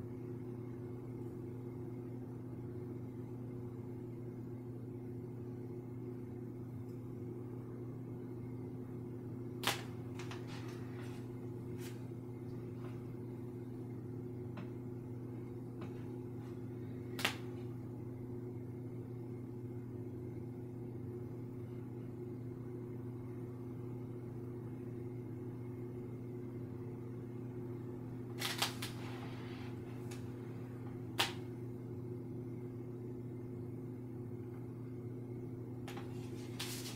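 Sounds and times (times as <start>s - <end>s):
low electrical hum: 0.0s - 36.9s.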